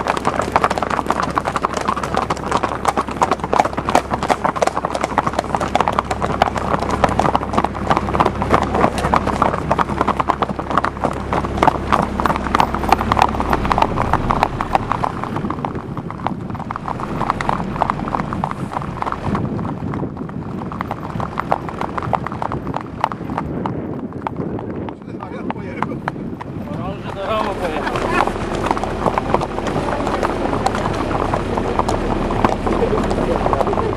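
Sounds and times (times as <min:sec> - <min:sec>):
horse hooves clip-clopping on asphalt: 0:00.0 - 0:33.9.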